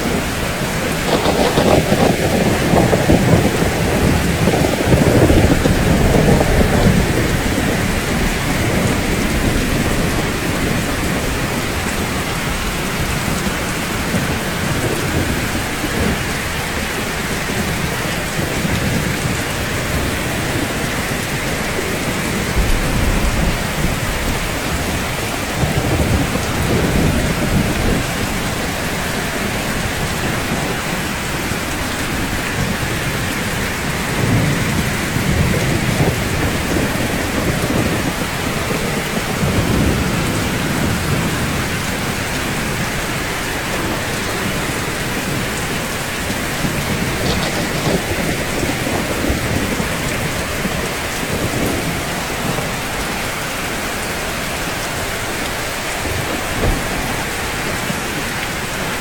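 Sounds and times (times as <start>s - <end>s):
rain on rooftops: 0.0s - 59.0s.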